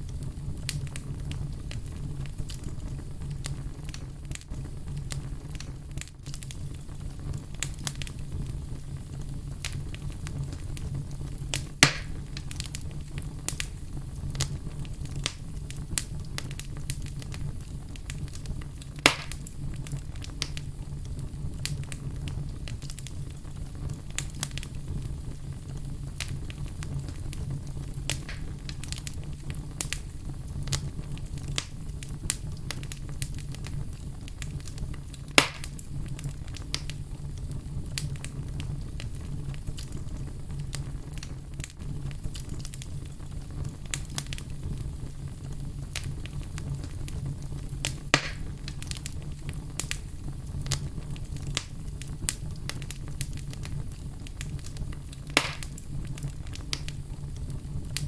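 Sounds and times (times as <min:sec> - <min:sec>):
fire crackling and popping: 0:00.0 - 0:58.0
loud fire snaps: 0:00.0 - 0:58.0.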